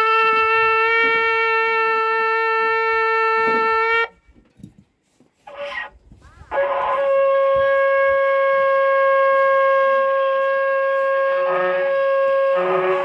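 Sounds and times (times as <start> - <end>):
shofar blast: 0.0 - 4.1, 6.5 - 13.0
lower shofar tone: 0.0 - 4.2, 6.5 - 13.0.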